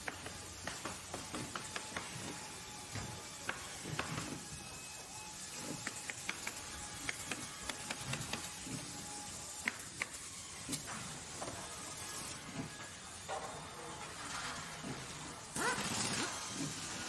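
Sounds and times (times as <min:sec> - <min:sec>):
steady machinery background noise: 0:00.0 - 0:17.0.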